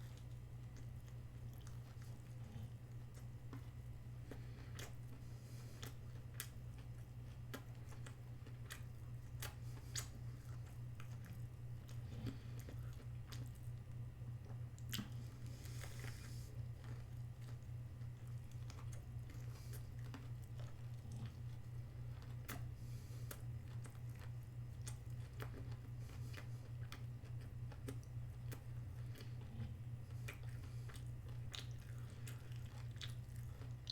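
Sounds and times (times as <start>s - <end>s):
close chewing of food: 0.0s - 33.9s
steady low hum: 0.0s - 33.9s.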